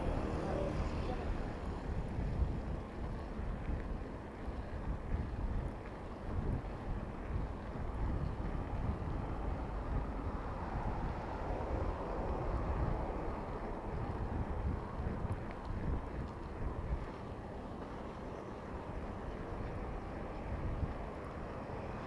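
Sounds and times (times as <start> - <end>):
road and traffic noise: 0.0 - 22.0
wind buffeting microphone: 0.0 - 22.0.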